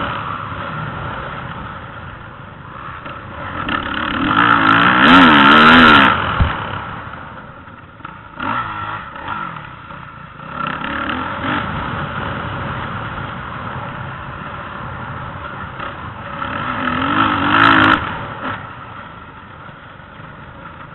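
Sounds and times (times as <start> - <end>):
dirt bikes revving: 0.0 - 20.9.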